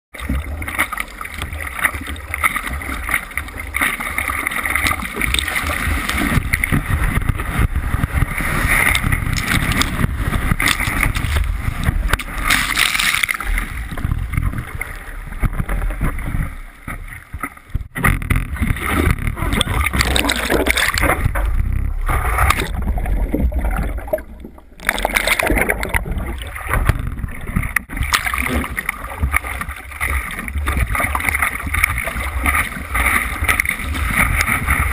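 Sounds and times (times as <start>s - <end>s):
sea water rushing and splashing: 0.2s - 34.9s
wind rumble on microphone: 4.9s - 24.8s, 25.4s - 34.9s.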